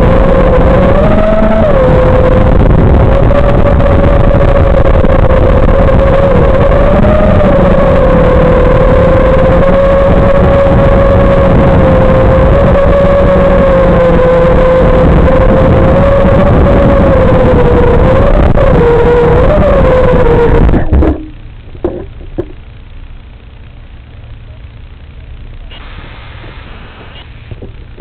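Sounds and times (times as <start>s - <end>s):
heavy rushing noise: 0.0s - 23.6s, 24.8s - 28.0s
drone motors whining: 0.0s - 28.0s.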